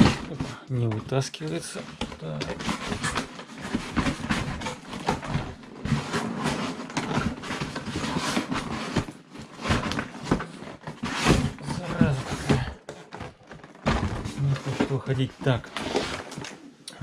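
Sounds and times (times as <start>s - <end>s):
cardboard scraping and rubbing: 1.5s - 16.7s.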